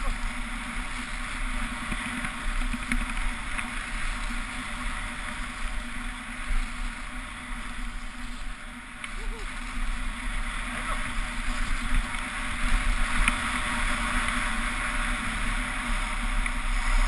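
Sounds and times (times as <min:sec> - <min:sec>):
skis hissing on snow: 0:03.3 - 0:17.0.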